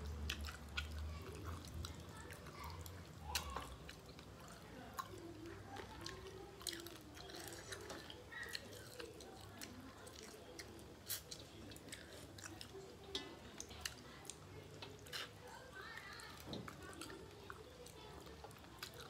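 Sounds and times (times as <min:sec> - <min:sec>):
people chewing food: 0:00.0 - 0:19.0.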